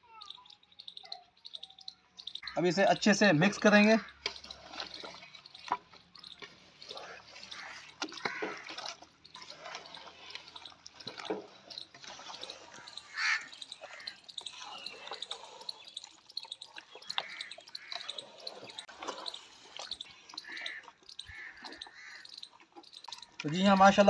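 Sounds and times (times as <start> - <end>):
wet squelching of kneaded meat: 2.6 - 24.0.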